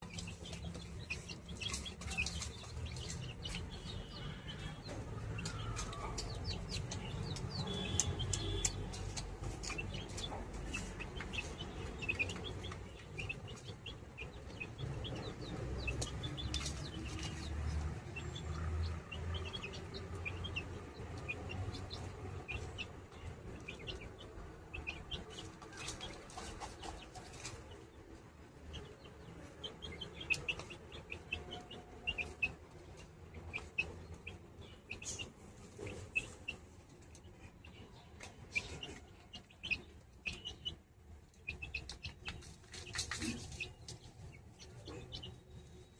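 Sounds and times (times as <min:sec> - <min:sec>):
pet birds chirping: 0:00.0 - 0:45.9.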